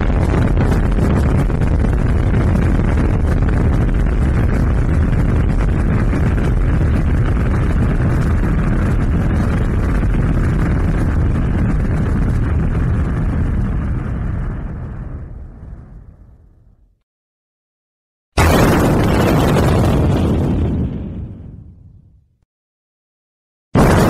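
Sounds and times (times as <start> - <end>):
explosion rumble: 0.0 - 17.0, 18.4 - 22.4, 23.8 - 24.0.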